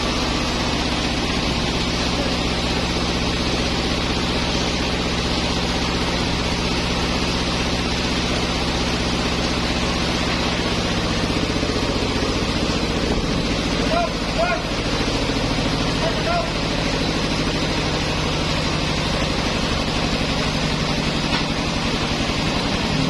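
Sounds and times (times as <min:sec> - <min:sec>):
engine hum: 0:00.0 - 0:23.0.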